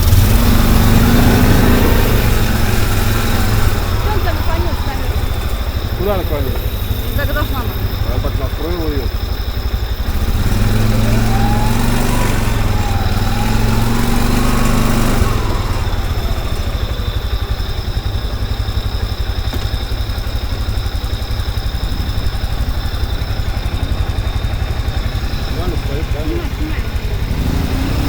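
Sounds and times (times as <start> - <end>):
small vehicle engine idling: 0.0 - 28.0.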